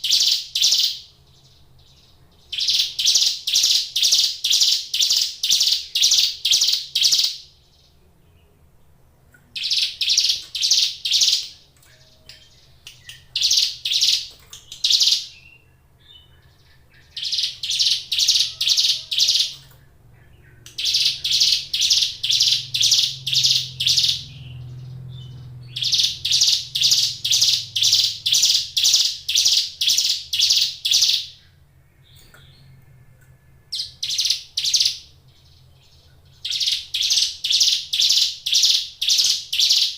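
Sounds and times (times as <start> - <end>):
bird singing high repeated notes: 0.0 - 8.6, 9.5 - 33.0, 33.6 - 39.9.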